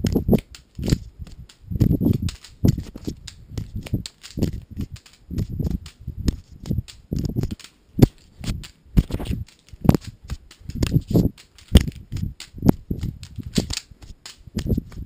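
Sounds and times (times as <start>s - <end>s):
camera knocks and thuds: 0.0s - 13.7s
rustling and rushing: 0.0s - 15.0s.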